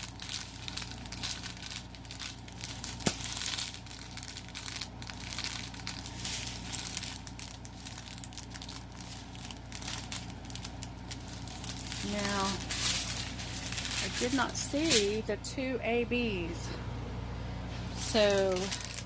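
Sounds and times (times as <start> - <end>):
plastic bags crinkling: 0.0 - 15.3, 17.7 - 19.0.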